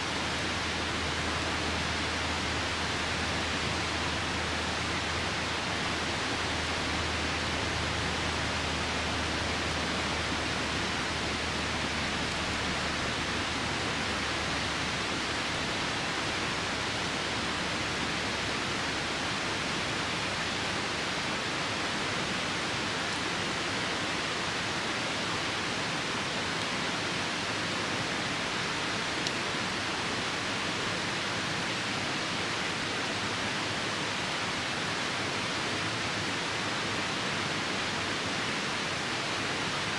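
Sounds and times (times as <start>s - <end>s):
rain falling: 0.0s - 39.9s
river rushing: 0.0s - 39.9s.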